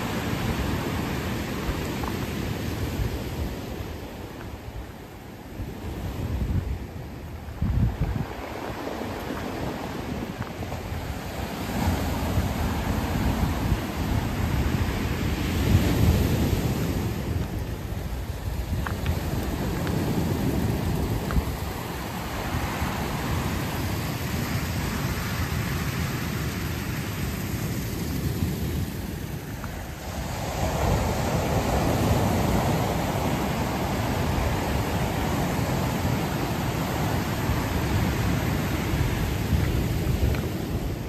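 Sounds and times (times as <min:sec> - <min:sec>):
surf washing up pebble beach: 0:00.0 - 0:41.0
wind on microphone: 0:00.0 - 0:41.0.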